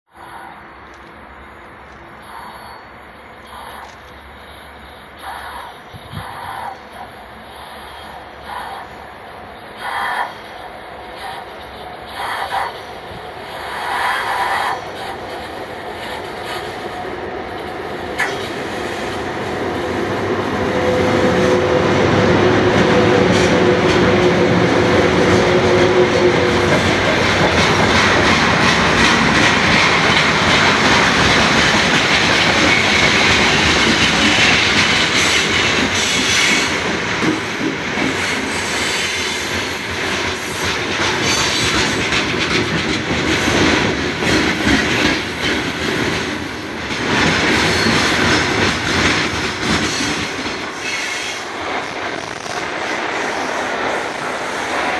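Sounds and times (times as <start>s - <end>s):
rails creaking and squealing: 0.1s - 54.9s
train wheels clattering over rail joints: 1.9s - 54.9s.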